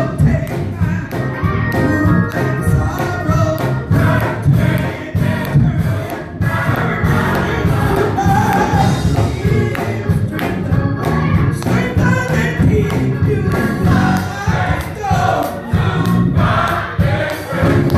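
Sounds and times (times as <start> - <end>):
gospel choir singing: 0.0 - 17.9
instrumental accompaniment: 0.0 - 17.9
steady percussive beat: 0.0 - 17.9.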